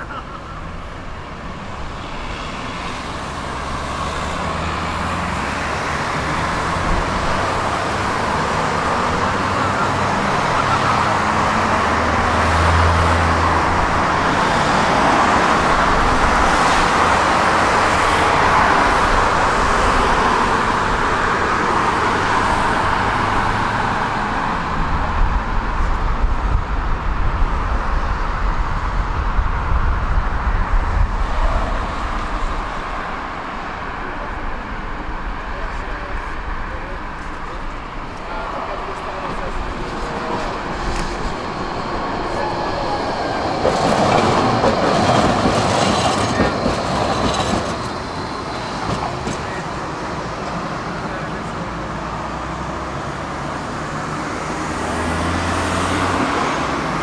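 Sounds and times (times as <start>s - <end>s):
tram wheels rolling on rails: 0.6s - 57.0s.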